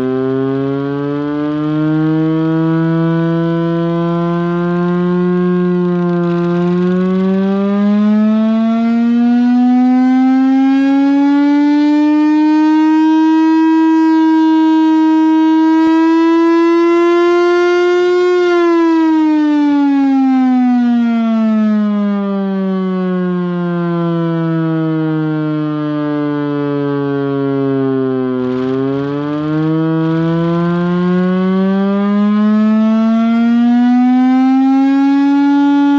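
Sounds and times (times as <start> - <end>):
air raid siren wailing: 0.0 - 35.9.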